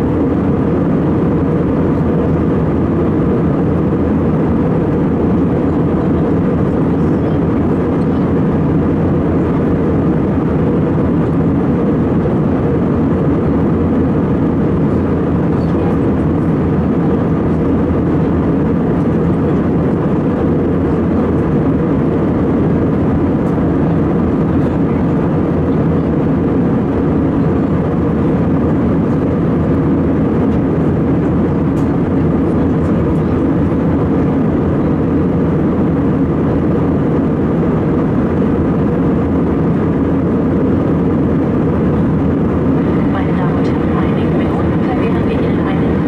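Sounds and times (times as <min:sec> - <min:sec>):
airplane cabin engine drone: 0:00.0 - 0:46.0.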